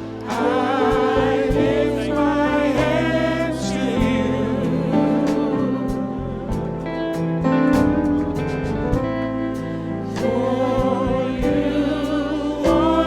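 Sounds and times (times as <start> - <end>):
choir singing gospel song: 0.0 - 13.0
instrumental backing: 0.0 - 13.0.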